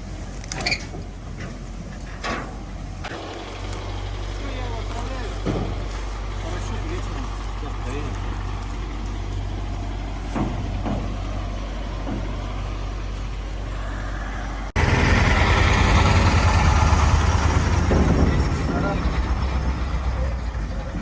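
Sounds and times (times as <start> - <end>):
engine humming low: 0.0 - 21.0
rough engine running: 0.0 - 21.0.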